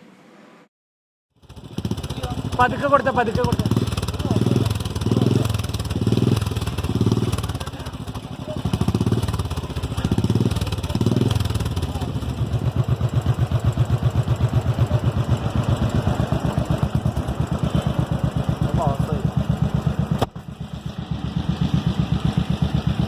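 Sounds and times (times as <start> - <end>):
motorcycle engine revving and idling: 1.4 - 23.0.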